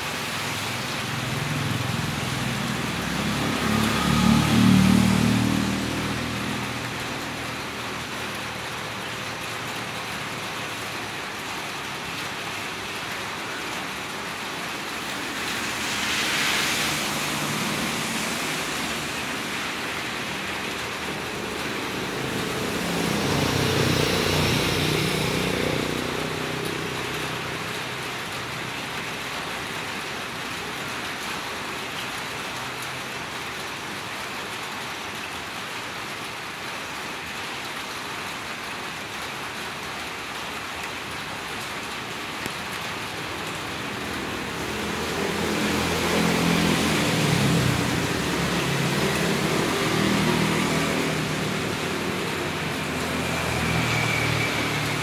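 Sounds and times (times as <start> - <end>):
vehicle engines passing: 0.0 - 35.0, 40.4 - 55.0
steady rain: 0.0 - 55.0
tyre hiss on wet road: 0.0 - 55.0.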